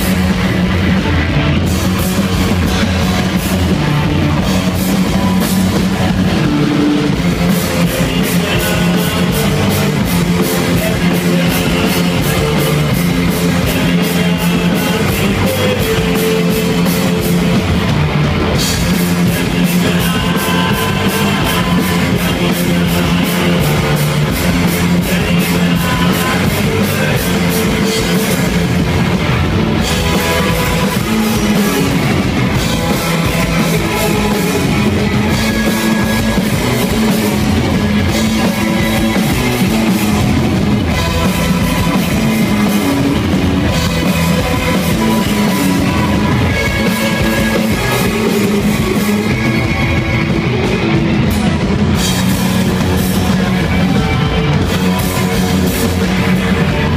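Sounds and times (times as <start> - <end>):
driving drum kit: 0.0 - 56.9
electric guitars: 0.0 - 56.9
live rock band playing: 0.0 - 56.9.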